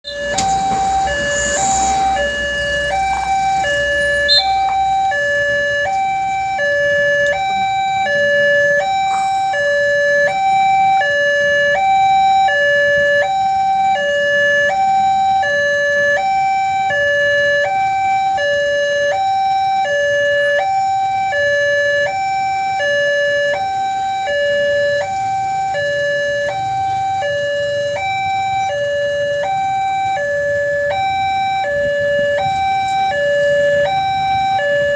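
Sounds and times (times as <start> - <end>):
level crossing two-tone alarm: 0.0 - 34.9.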